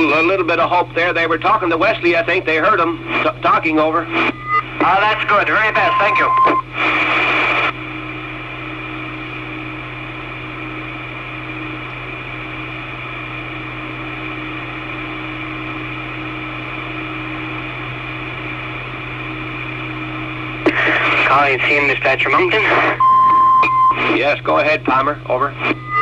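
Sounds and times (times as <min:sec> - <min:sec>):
radio static hiss and hum: 0:00.0 - 0:26.0.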